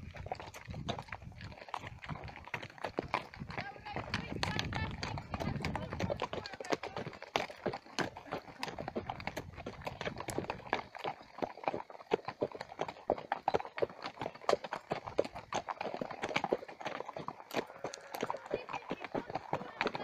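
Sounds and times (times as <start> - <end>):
horse hooves clip-clopping on stones: 0.0 - 20.0.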